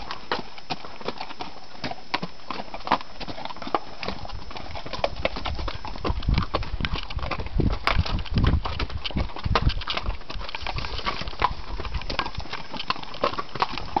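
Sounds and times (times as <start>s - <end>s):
hooves clip-clopping on rocky trail: 0.0s - 14.0s.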